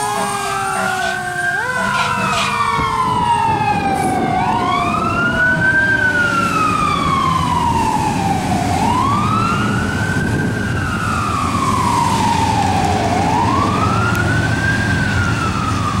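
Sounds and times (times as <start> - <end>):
fire truck siren wailing: 0.0 - 16.0.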